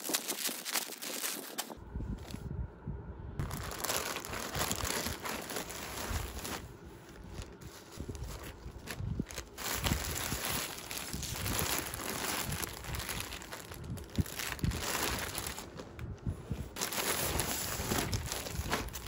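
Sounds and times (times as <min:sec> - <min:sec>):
plastic bags crinkling: 0:00.0 - 0:01.8, 0:03.4 - 0:16.1, 0:16.7 - 0:19.0.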